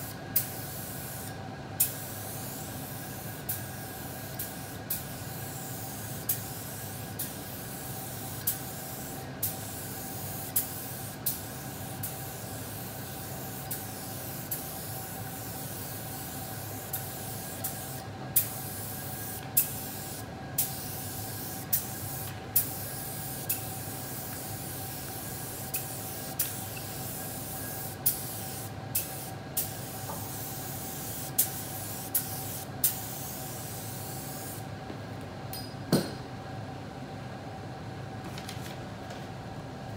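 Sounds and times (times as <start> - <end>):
spray gun hissing: 1.9 - 34.6.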